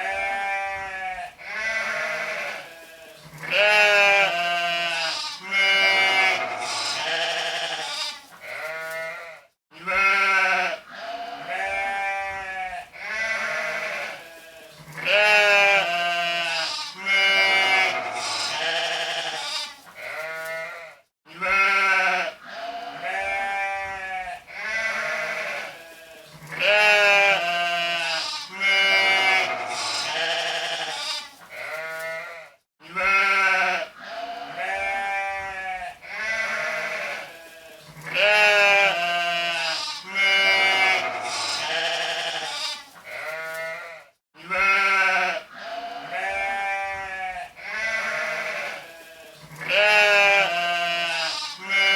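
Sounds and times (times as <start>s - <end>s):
sheep bleating: 0.0s - 51.9s.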